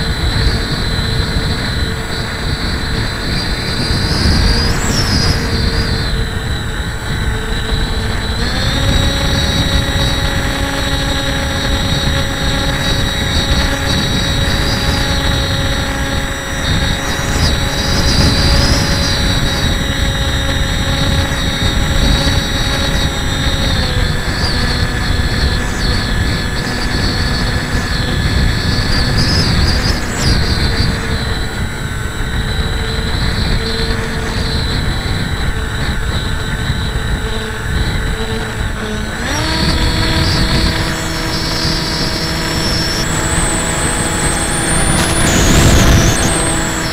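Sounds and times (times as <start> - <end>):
electric motor and propeller whine: 0.0 - 46.9
wind rushing past microphone: 0.0 - 46.9.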